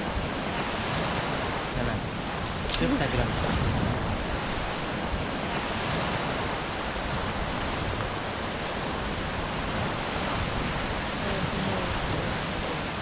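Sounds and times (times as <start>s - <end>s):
sea surf washing onto beach: 0.0s - 13.0s
wind buffeting microphone: 0.0s - 13.0s.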